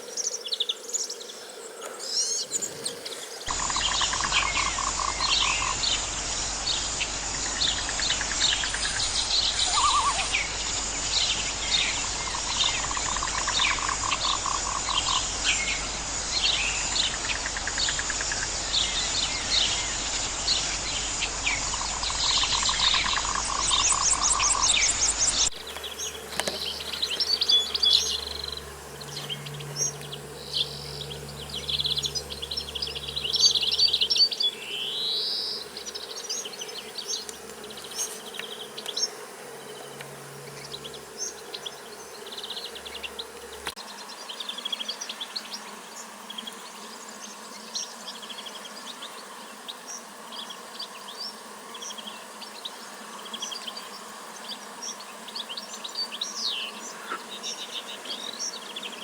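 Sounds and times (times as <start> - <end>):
insect trills: 0.0 - 59.0
low steady insect buzz: 0.0 - 59.0
small birds chirping: 0.0 - 59.0.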